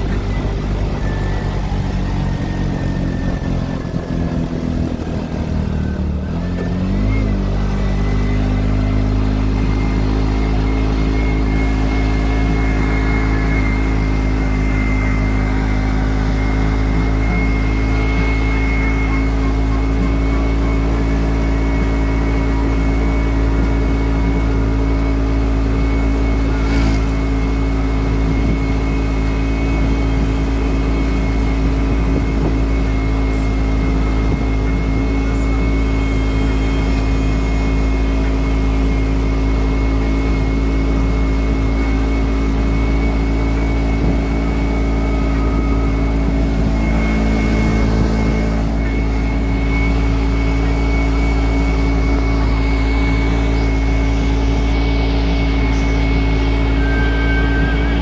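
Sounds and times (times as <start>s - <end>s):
motorcycle engine droning: 0.0s - 58.0s
road and wind noise: 0.0s - 58.0s.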